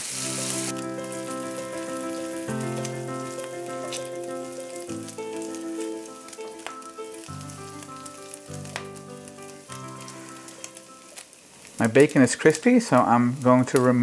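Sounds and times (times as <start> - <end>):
light background music: 0.0 - 11.2
bacon sizzling in a skillet: 0.0 - 14.0
sharp crackles: 0.0 - 14.0.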